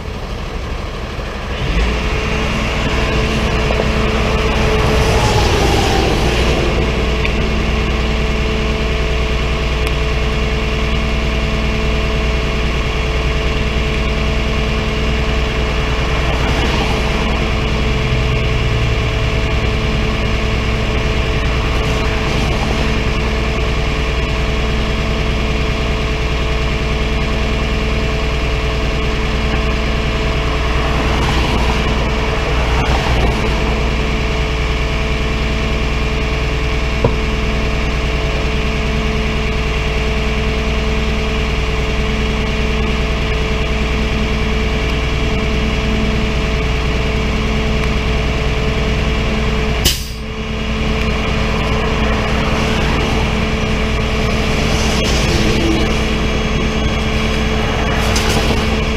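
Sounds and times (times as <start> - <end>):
truck engine idling: 0.0 - 58.9
pulsing low tone: 1.0 - 58.9.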